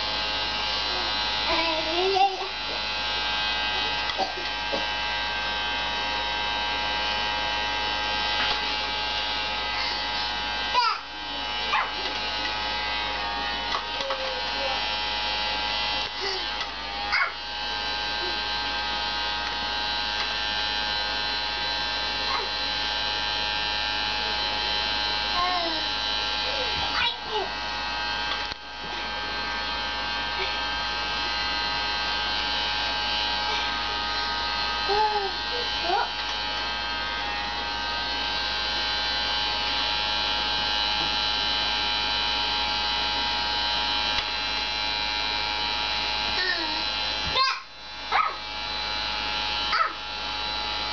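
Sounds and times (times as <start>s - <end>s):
small motor buzzing whine: 0.0s - 50.9s.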